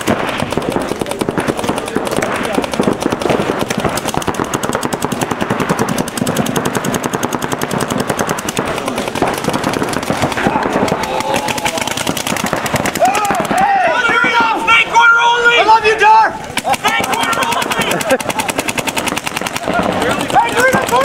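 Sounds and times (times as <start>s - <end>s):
paintball markers firing rapidly: 0.0s - 14.6s, 16.5s - 21.0s.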